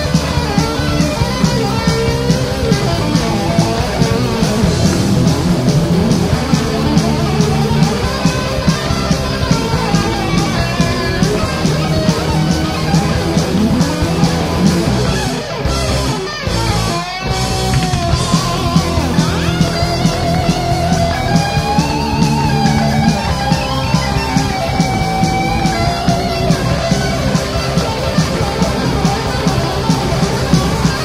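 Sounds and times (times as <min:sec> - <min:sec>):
guitar note bending: 0:00.0 - 0:31.0
rock band playing: 0:00.0 - 0:31.0.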